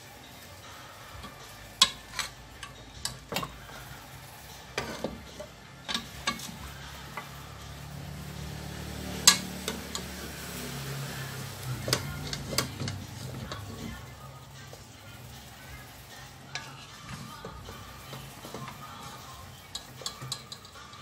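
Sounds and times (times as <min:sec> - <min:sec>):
metal spoon scraping a pot: 0:01.1 - 0:07.6, 0:08.9 - 0:14.4, 0:15.8 - 0:21.0.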